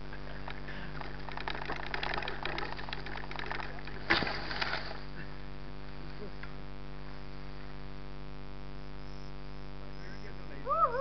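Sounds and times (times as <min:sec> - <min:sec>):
insect drone: 0:00.0 - 0:11.0.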